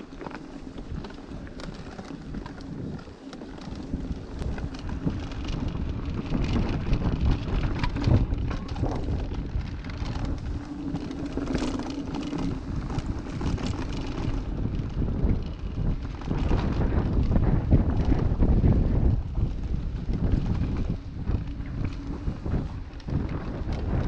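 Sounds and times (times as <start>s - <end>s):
bike knocks and rattles: 0.0s - 24.0s
tyres rolling on dirt: 0.0s - 24.0s
wind on microphone: 0.0s - 24.0s.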